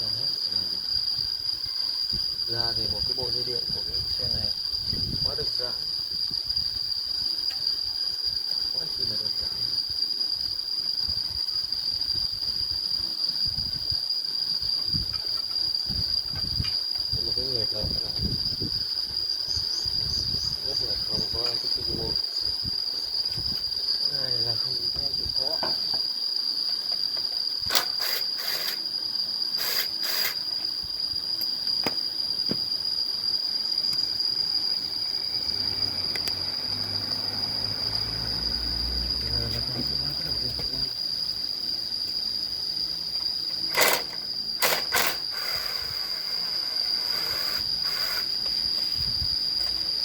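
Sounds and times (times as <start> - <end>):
crickets chirring: 0.0 - 50.0
insects droning: 0.0 - 50.0.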